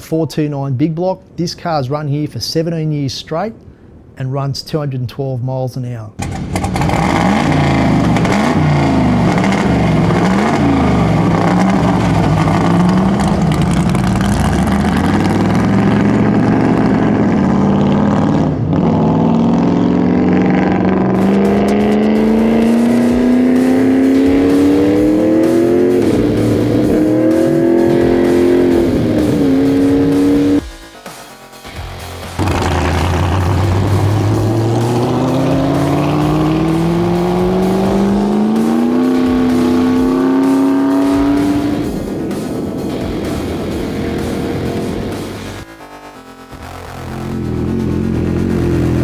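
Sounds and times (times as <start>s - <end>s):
race car engine revving: 6.2s - 30.6s, 32.3s - 45.7s, 46.6s - 49.0s.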